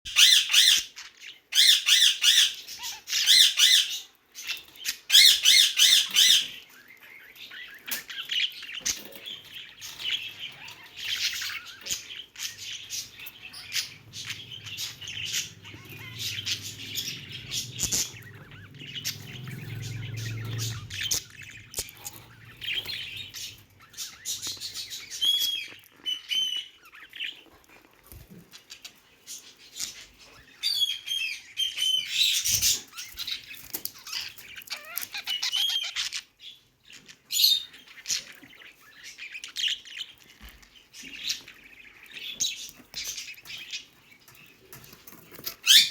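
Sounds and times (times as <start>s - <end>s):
budgerigars chirping and chattering: 0.1s - 45.9s.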